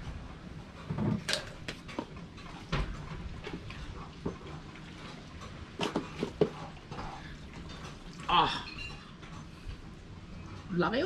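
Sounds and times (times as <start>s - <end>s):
light knocks and clatters in container: 0.8s - 9.8s.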